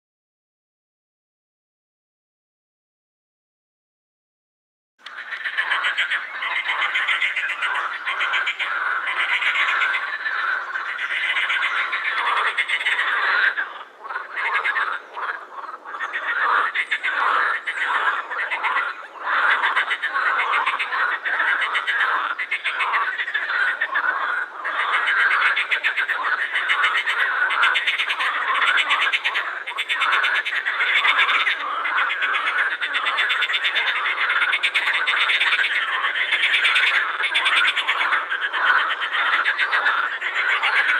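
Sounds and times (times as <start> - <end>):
frogs croaking in chorus: 5.0 - 40.9.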